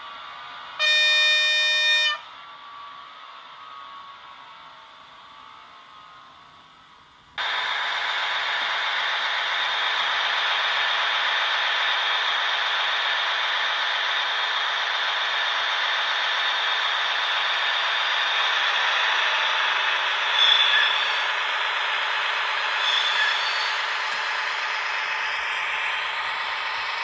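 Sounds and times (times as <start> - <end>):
model locomotive sound from speaker: 0.0 - 27.0.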